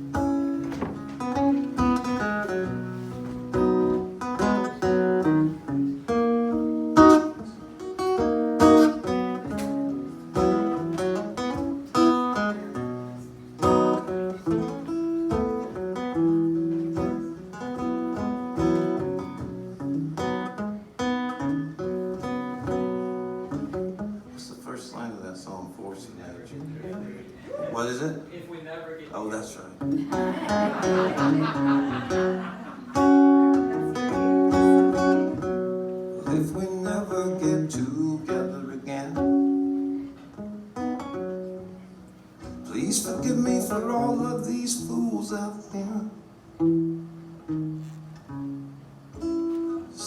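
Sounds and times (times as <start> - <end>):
acoustic guitar picked and strummed: 0.0 - 27.6, 29.2 - 50.0.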